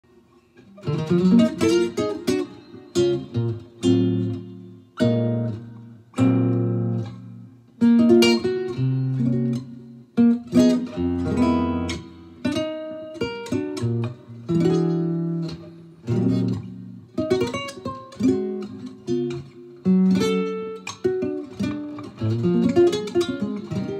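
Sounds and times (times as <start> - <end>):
clean electric guitar jazz chords: 0.6 - 23.9.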